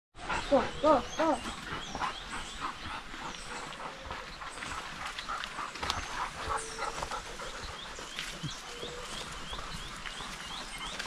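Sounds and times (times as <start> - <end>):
dog panting: 0.2 - 11.0.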